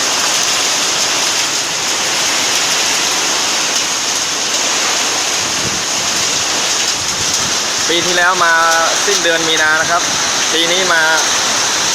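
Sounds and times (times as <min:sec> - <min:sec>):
hail pelting down: 0:00.0 - 0:11.9
heavy rain downpour: 0:00.0 - 0:11.9.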